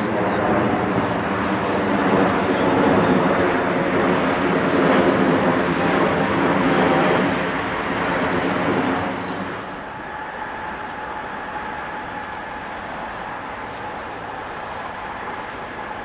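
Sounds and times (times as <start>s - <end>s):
jet engines passing overhead: 0.0s - 16.0s.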